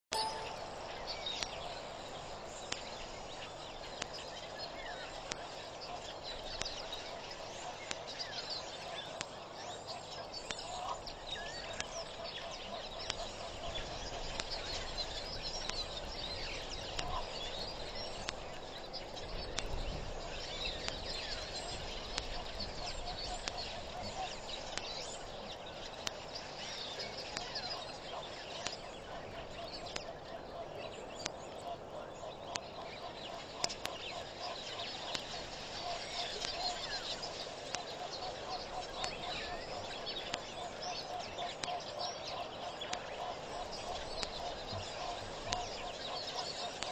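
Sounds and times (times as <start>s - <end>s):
wild birds chirping: 0.2s - 46.9s.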